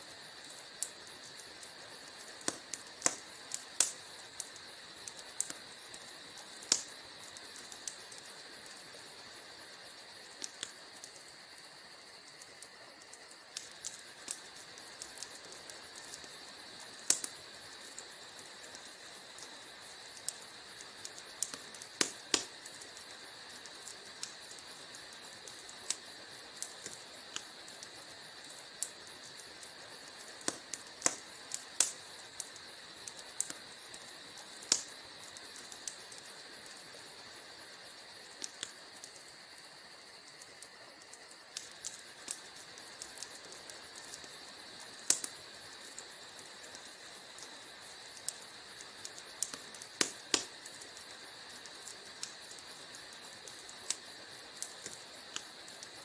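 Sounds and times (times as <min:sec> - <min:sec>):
fire hissing: 0:00.0 - 0:56.0
wood fire crackling and popping: 0:00.0 - 0:56.0.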